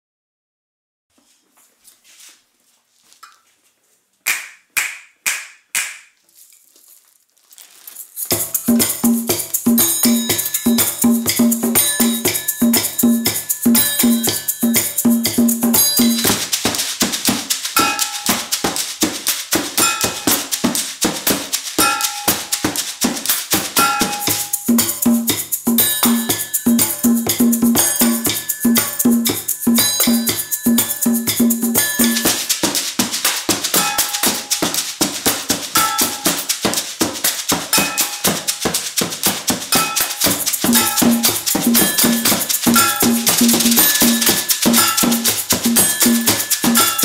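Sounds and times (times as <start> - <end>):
plastic bottle shakers: 6.2 - 47.0
percussion ensemble groove: 8.0 - 47.0
tambourine: 8.0 - 47.0
hand drum: 8.2 - 47.0.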